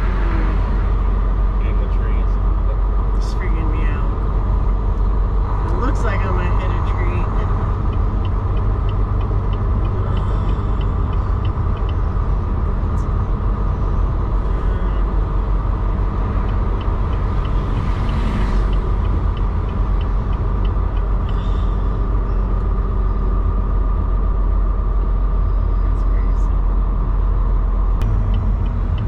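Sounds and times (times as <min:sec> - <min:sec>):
truck engine rumble: 0:00.0 - 0:29.0
turn signal ticking: 0:02.3 - 0:25.8, 0:28.0 - 0:29.0.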